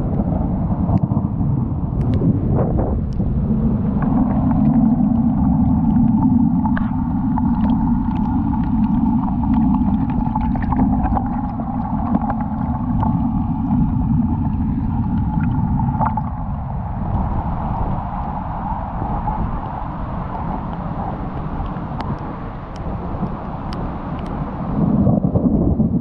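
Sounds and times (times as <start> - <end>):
wind and rain buffeting microphone: 0.0 - 26.0.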